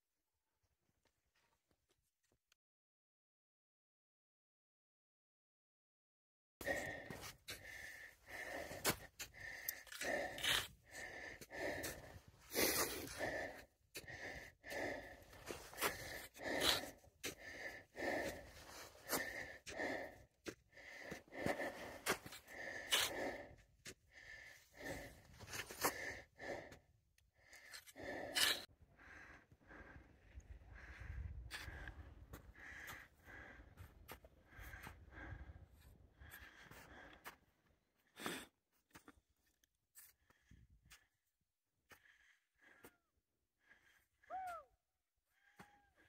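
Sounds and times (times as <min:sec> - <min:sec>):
hard rhythmic breathing: 0:06.6 - 0:39.2, 0:40.0 - 0:46.0.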